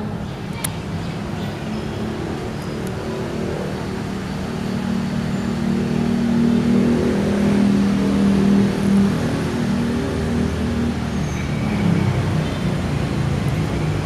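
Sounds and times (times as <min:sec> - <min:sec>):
motor traffic: 0:00.0 - 0:14.0.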